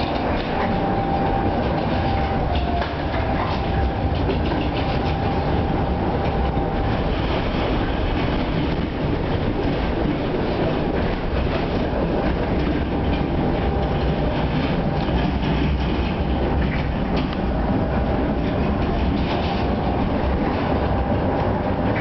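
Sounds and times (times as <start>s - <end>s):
thin steady whine: 0.0s - 22.0s
tram wheels rumbling on rails: 0.0s - 22.0s.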